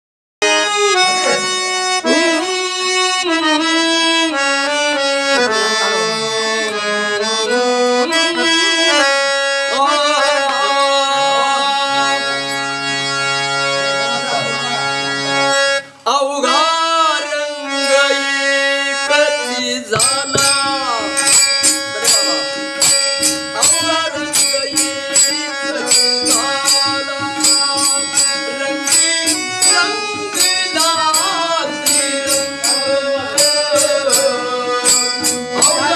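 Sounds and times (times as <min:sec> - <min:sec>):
percussion steady beat: 0:00.4 - 0:15.9, 0:16.5 - 0:35.9
harmonium melody: 0:00.4 - 0:35.9.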